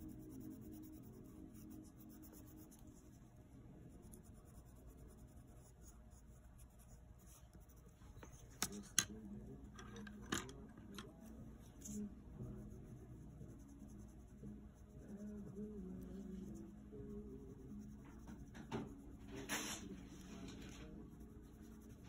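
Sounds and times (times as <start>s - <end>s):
pencil scratching on paper: 0.0s - 9.0s, 11.7s - 22.0s.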